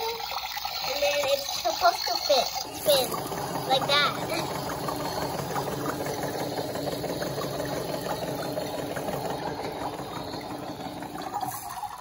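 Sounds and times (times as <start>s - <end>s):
toy washing machine motor running: 0.0s - 12.0s.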